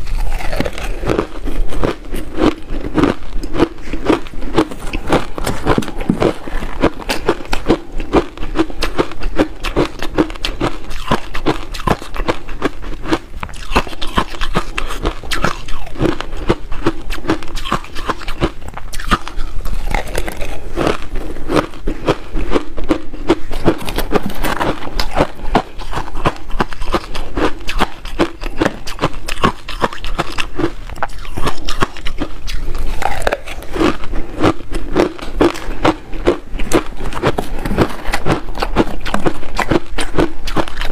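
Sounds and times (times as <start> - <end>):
crunchy chewing of ice: 0.0 - 40.9.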